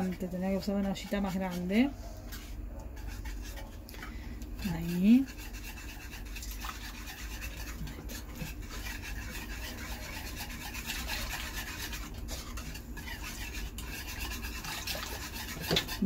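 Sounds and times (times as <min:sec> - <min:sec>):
wire whisk scraping a pot: 0:00.0 - 0:16.0.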